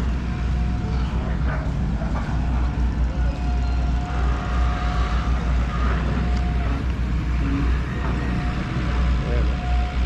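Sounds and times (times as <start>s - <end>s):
diesel engines rumbling: 0.0s - 10.0s
thin steady whine: 0.0s - 10.0s.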